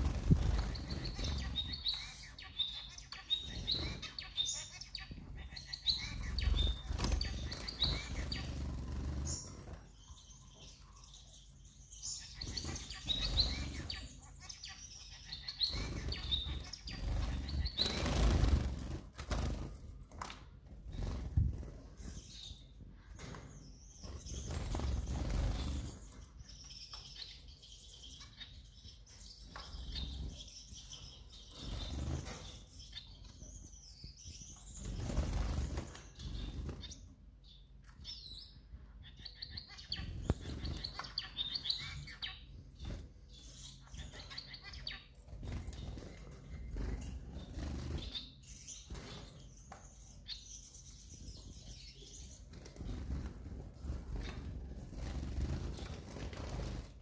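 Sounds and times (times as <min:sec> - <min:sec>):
finches chirping: 0:00.0 - 0:19.8, 0:20.9 - 0:57.0.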